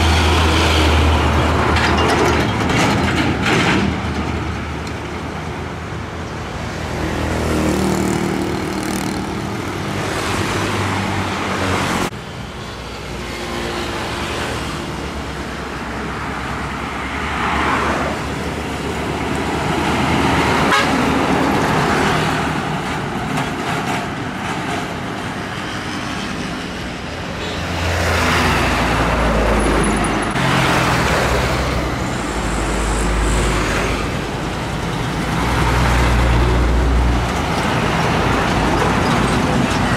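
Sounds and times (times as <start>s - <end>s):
heavy trucks passing: 0.0s - 39.9s.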